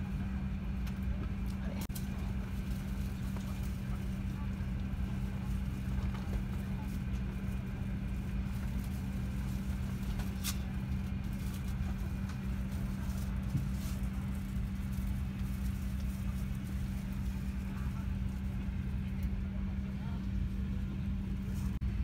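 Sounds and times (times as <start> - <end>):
airliner cabin hum: 0.0 - 22.0.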